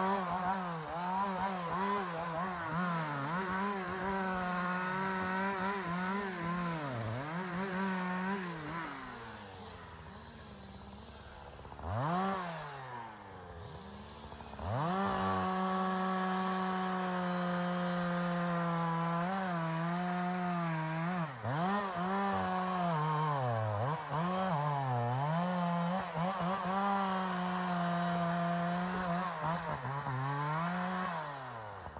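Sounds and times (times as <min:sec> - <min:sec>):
chainsaw engine revving and cutting: 0:00.0 - 0:31.9.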